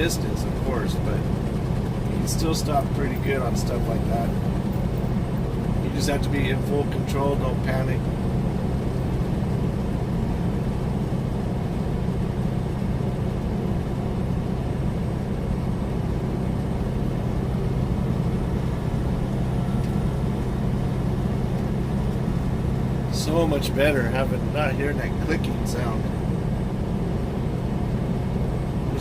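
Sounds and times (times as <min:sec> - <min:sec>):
road and wind noise: 0:00.0 - 0:29.0
truck engine hum: 0:00.0 - 0:29.0.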